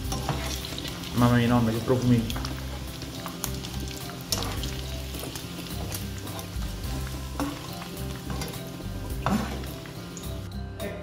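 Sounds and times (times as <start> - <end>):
meatballs sizzling in hot oil: 0.0 - 10.5
background music: 0.0 - 11.0.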